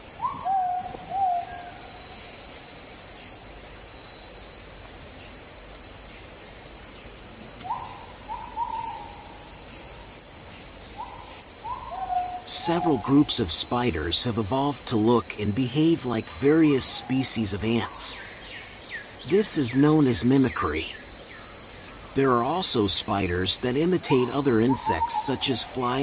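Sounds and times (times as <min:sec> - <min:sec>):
bird calls: 0:00.0 - 0:03.0, 0:07.4 - 0:26.0
insects trilling: 0:00.0 - 0:26.0.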